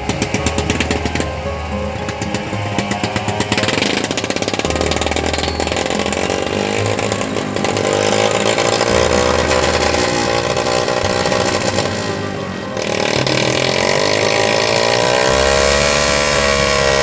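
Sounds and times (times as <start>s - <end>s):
motorcycle engine revving under load: 2.0s - 17.0s.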